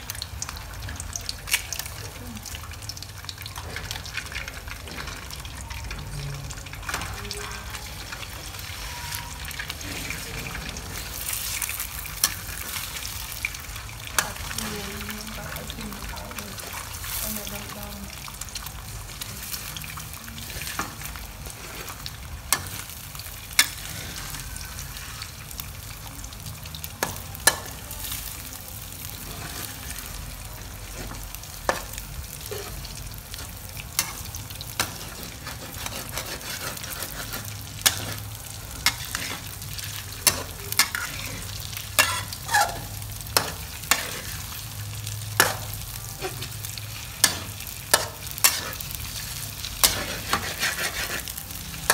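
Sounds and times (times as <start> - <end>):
eggs sizzling in hot oil: 0.0 - 51.9.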